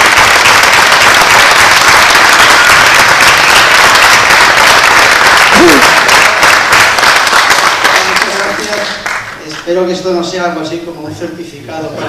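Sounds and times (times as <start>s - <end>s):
large audience applauding: 0.0s - 9.7s.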